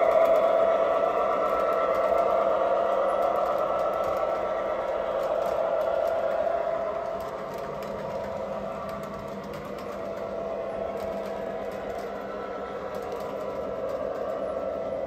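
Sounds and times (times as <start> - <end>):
model train wheels rumbling: 0.0 - 15.0.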